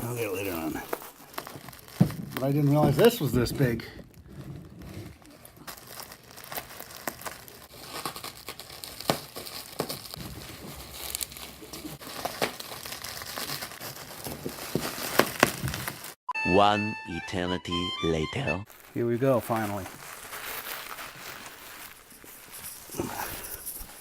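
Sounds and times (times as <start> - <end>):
packaging crinkling: 0.0 - 16.2, 18.7 - 24.0.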